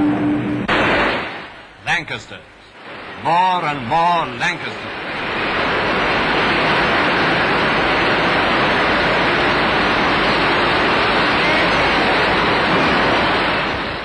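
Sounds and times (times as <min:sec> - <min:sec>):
aircraft engines droning: 0:00.0 - 0:00.7, 0:01.4 - 0:14.0.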